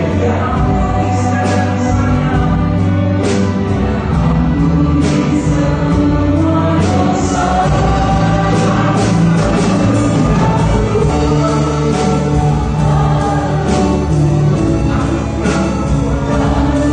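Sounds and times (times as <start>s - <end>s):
group singing a worship song: 0.0s - 16.9s
strings guitars and keyboard playing: 0.0s - 16.9s.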